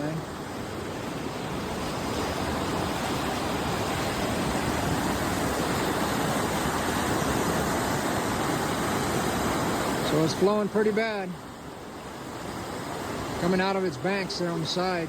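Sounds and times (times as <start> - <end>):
flooded river rushing: 0.0 - 15.0.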